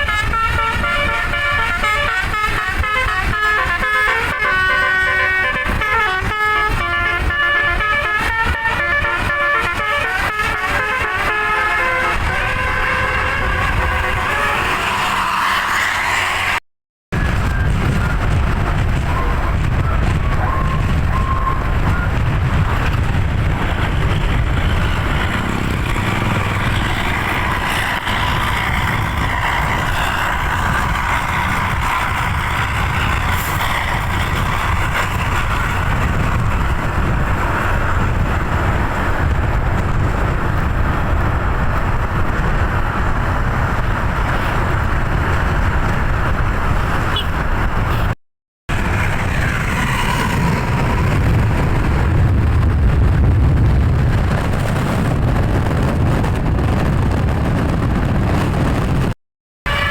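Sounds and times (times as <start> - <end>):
heavy traffic rumble: 0.0 - 59.9
tyre and road noise: 0.0 - 59.9.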